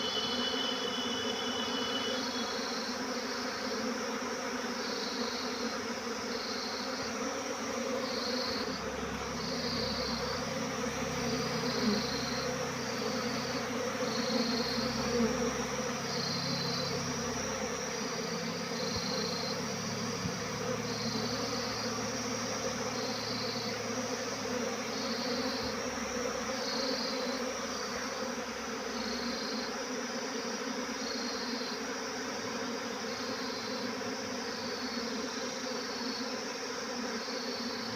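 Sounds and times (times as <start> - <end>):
bees buzzing: 0.0 - 37.9.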